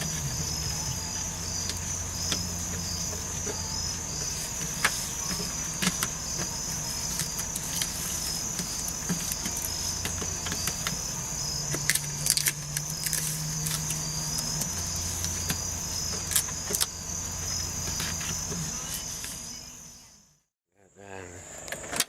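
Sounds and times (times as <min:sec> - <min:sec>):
power window motor humming: 0:00.0 - 0:19.9.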